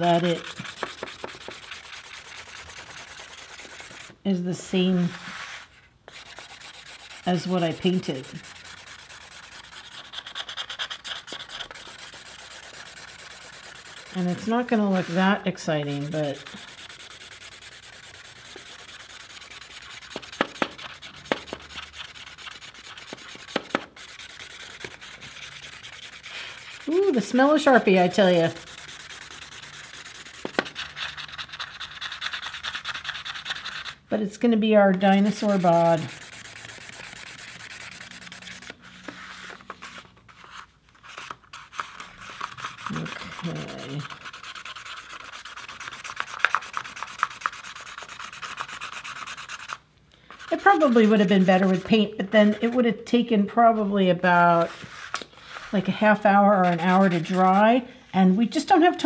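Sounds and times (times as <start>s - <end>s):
marker scratching on paper: 0.0s - 4.2s, 4.8s - 34.0s, 34.9s - 39.6s, 41.1s - 49.8s, 50.4s - 52.9s, 54.6s - 57.7s.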